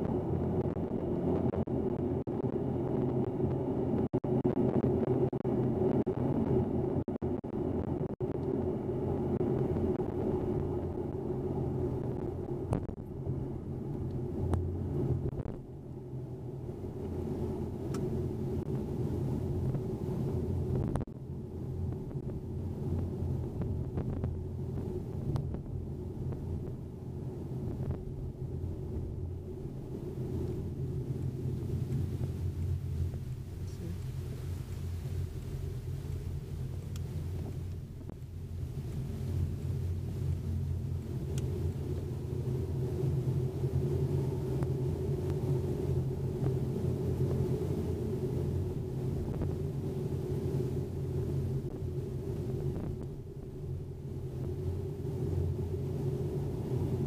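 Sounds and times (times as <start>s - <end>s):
car engine drone: 0.0s - 57.0s
road rumble: 0.0s - 57.0s.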